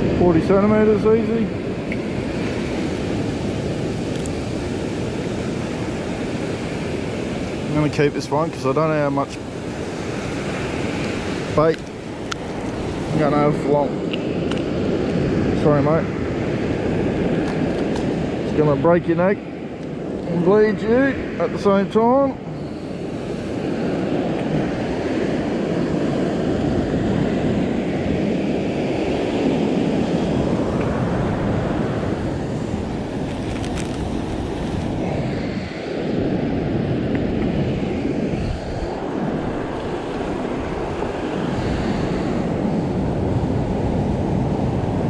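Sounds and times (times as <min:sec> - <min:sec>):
surf breaking on beach: 0:00.0 - 0:45.0
wind buffeting microphone: 0:00.0 - 0:45.0.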